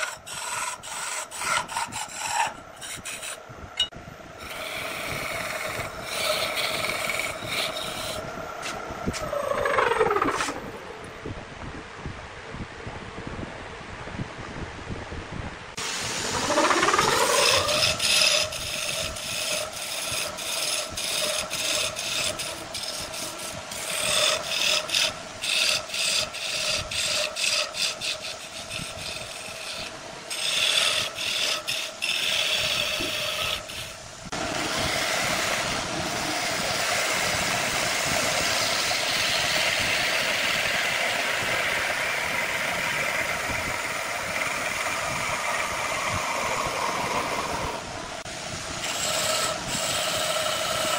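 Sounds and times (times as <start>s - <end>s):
wood lathe whine: 0.0s - 3.4s, 4.4s - 10.6s, 15.8s - 50.9s
turning tool cutting wood: 0.0s - 10.6s, 15.8s - 50.9s.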